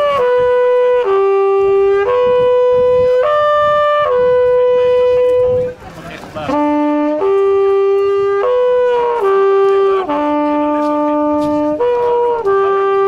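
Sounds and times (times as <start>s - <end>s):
wooden horn long notes: 0.0s - 13.0s.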